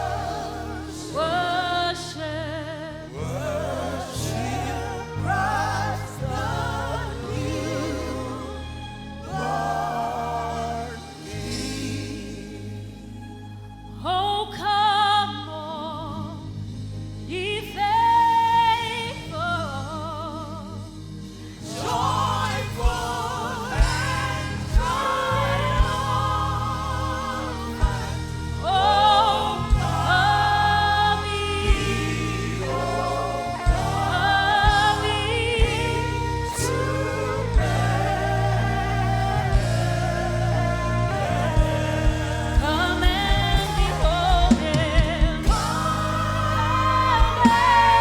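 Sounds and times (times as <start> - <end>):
bass: 0.0 - 48.0
gospel worship singing: 0.0 - 48.0.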